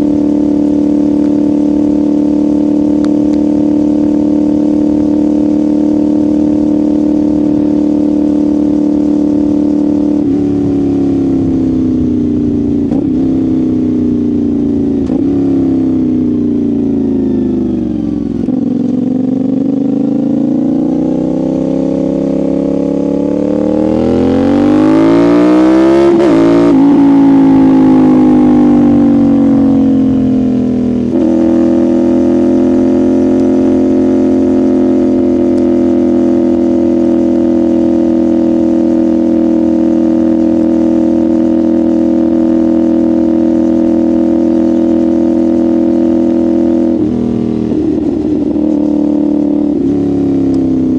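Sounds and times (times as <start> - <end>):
motorcycle engine and exhaust: 0.0 - 50.9.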